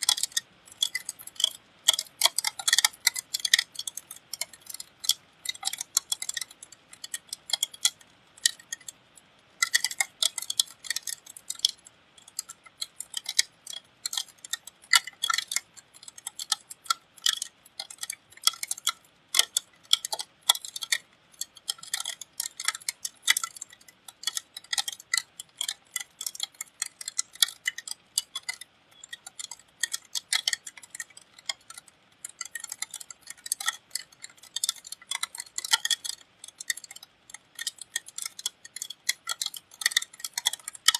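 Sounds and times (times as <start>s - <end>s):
raindrops ticking on hard surface: 0.0s - 40.9s.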